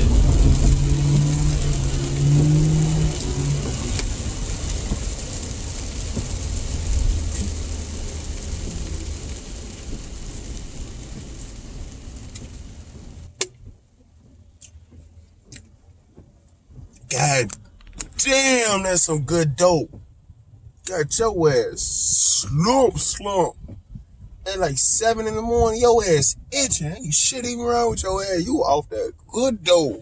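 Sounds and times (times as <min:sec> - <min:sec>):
car engine: 0:00.0 - 0:30.0
tyre noise on wet road: 0:00.0 - 0:30.0.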